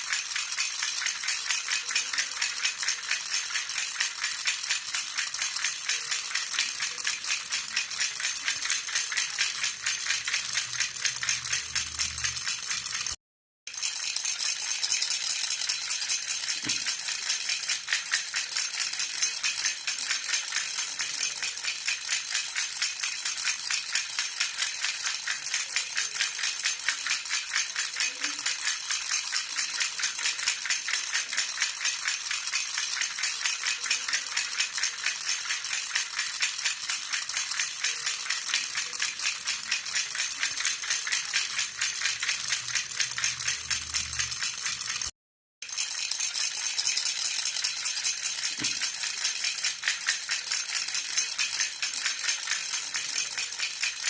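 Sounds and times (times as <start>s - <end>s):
baby rattle jingling: 0.0s - 54.0s.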